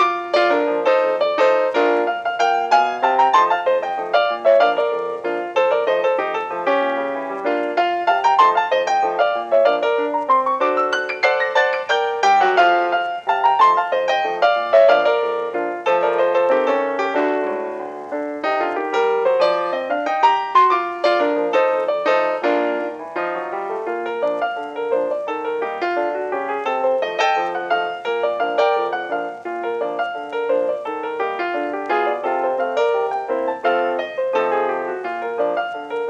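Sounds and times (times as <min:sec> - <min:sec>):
quick piano run: 0:00.0 - 0:36.0.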